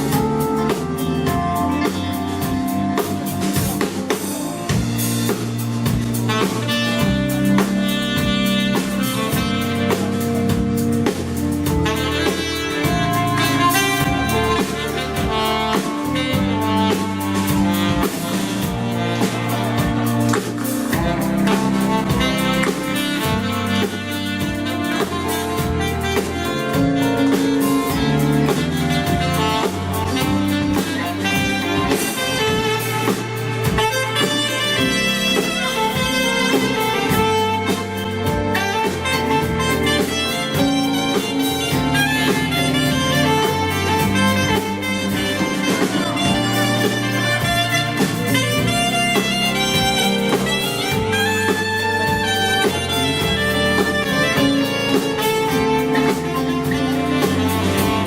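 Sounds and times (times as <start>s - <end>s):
live band playing pop-soul: 0.0s - 58.0s.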